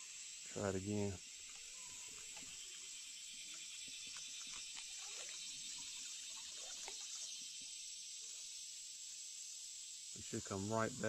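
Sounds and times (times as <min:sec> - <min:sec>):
high-pitched outdoor hiss: 0:00.0 - 0:11.0.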